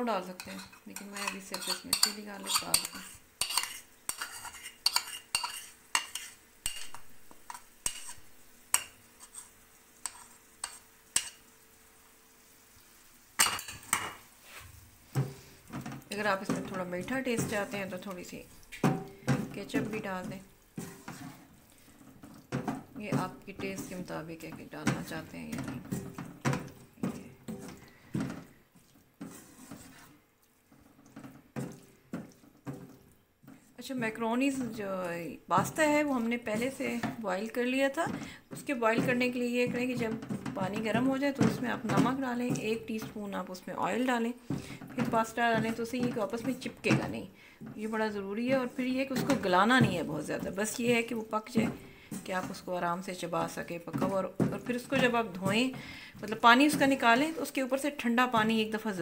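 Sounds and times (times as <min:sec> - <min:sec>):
wooden spatula scraping wok: 0:00.0 - 0:11.5, 0:12.4 - 0:59.0.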